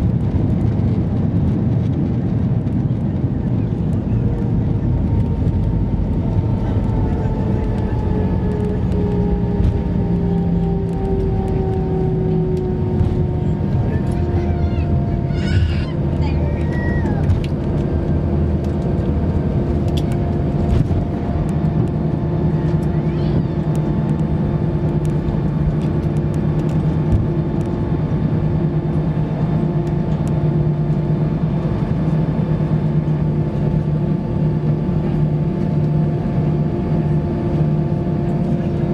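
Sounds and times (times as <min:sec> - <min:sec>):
steady engine drone: 0:00.0 - 0:38.9.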